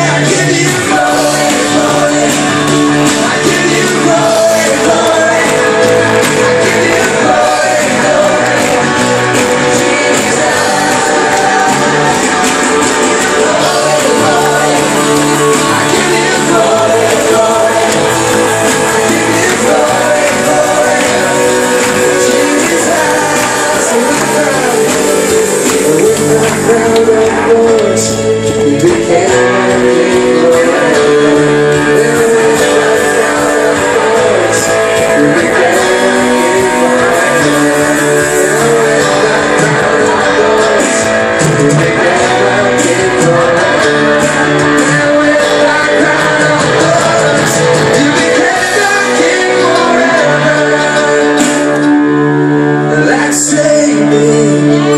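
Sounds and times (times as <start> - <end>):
voices singing drawn-out notes: 0.0 - 53.2
worship band with guitar: 0.0 - 54.9.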